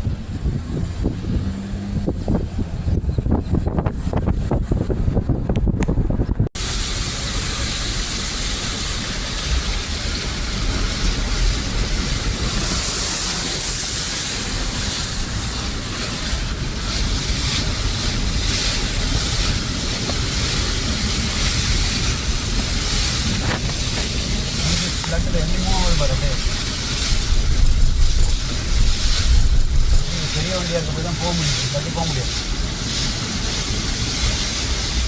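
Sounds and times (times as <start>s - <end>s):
traffic on wet road: 0.0s - 35.0s
wind rumble on microphone: 0.0s - 35.0s
heavy rain: 6.6s - 35.0s.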